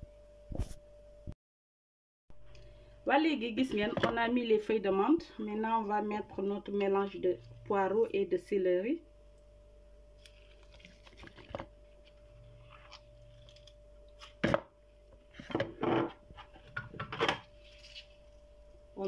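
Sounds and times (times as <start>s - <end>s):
faint steady hum: 0.0s - 1.4s, 2.4s - 19.0s.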